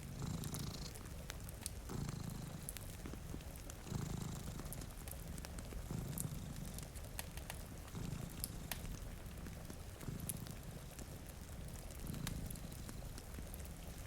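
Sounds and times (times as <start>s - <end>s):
cat purring: 0.0s - 14.0s
rain hiss: 0.0s - 14.0s
wood fire crackling: 0.0s - 14.0s.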